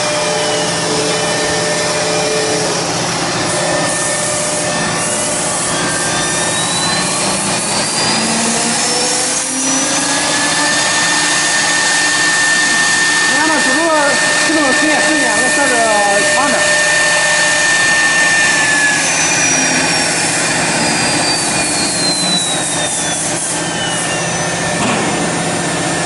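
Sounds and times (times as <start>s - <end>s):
cnc router running: 0.0s - 26.0s
spindle whine: 0.0s - 26.0s.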